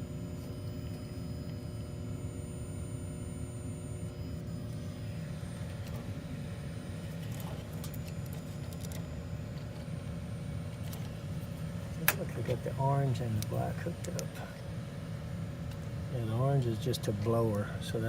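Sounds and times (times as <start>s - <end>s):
gas furnace humming: 0.0s - 18.0s.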